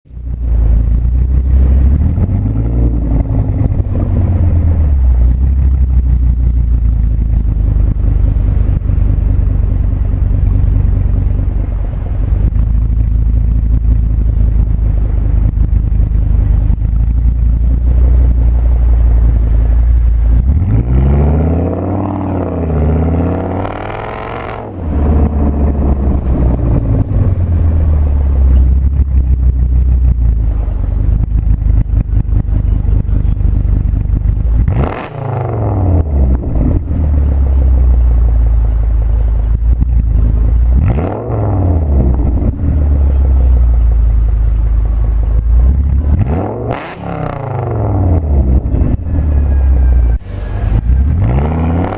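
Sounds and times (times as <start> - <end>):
car exhaust drone and revving: 0.0 - 51.9.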